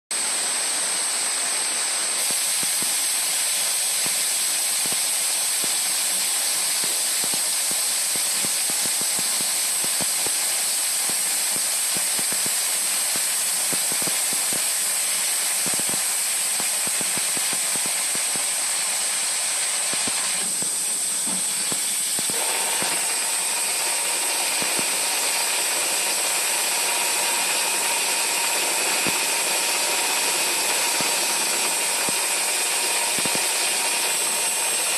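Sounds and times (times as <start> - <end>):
mid-pitched machine whine: 0.2 - 34.9
lathe cutting with high whine: 2.1 - 34.9.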